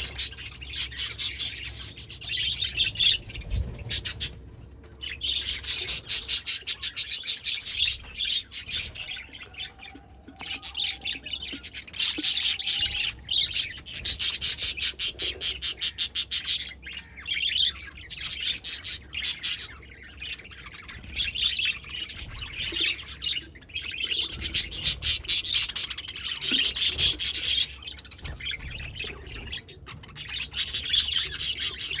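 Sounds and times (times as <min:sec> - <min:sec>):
budgerigars chattering: 0:00.0 - 0:04.4, 0:05.0 - 0:32.0.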